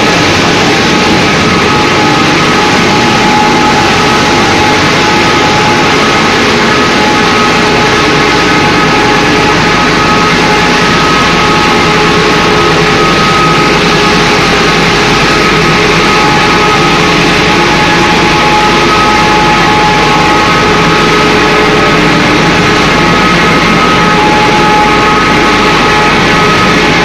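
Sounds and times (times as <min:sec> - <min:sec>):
machine whining tones: 0:00.0 - 0:27.0
machinery mechanical din: 0:00.0 - 0:27.0.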